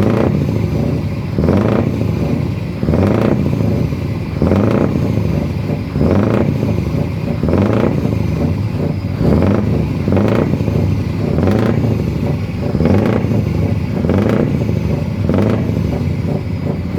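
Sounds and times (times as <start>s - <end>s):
truck engine running: 0.0s - 16.9s.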